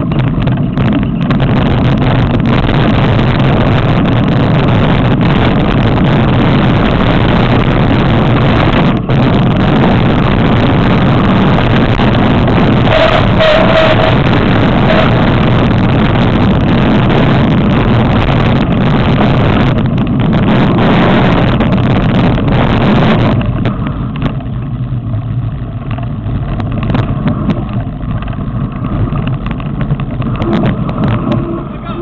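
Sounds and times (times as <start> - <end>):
bike rattling over stones: 0.0 - 12.8, 14.4 - 32.0
wind rushing over microphone: 0.0 - 32.0.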